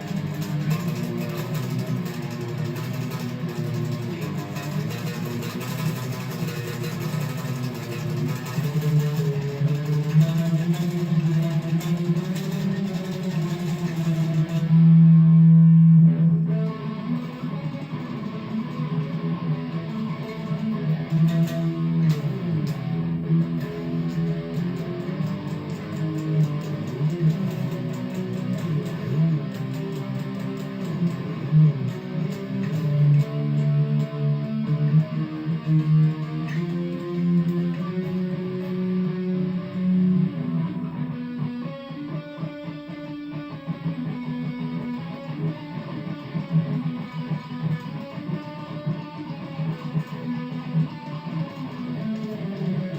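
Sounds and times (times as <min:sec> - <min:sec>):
guitar strumming chords: 0:00.0 - 0:52.9.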